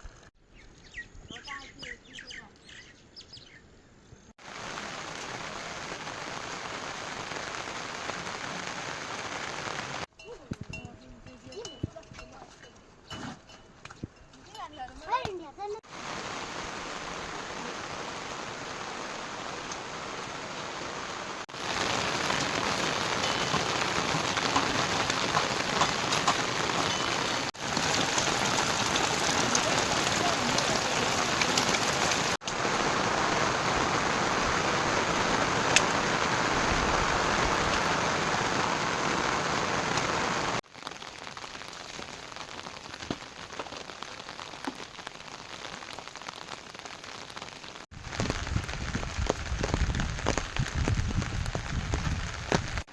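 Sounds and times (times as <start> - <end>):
heavy rain falling: 4.4 - 10.1, 15.8 - 52.9.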